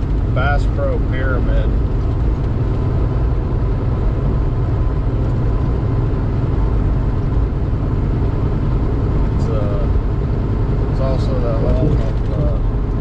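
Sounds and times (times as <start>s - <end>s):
truck engine and tyre drone: 0.0s - 13.0s.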